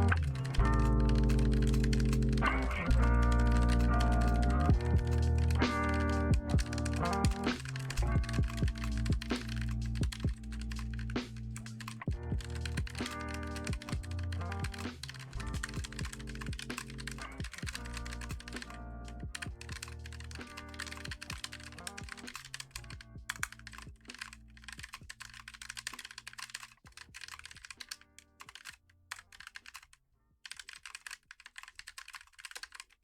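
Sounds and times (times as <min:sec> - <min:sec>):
background music: 0:00.0 - 0:26.4
mechanical keyboard typing: 0:00.0 - 0:33.0.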